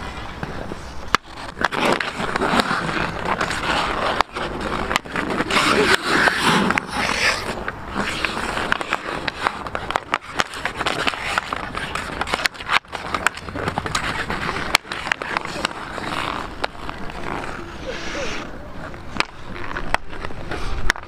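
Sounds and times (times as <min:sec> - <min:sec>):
skate blades scraping ice: 0:00.0 - 0:21.0.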